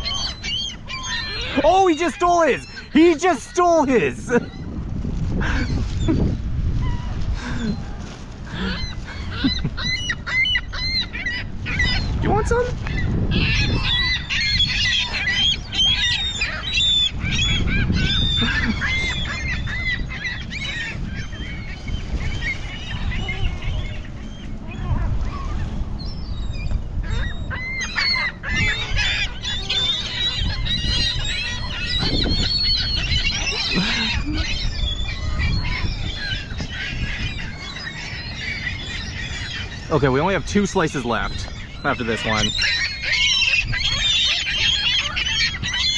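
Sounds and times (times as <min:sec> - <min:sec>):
gulls calling: 0:00.0 - 0:45.9.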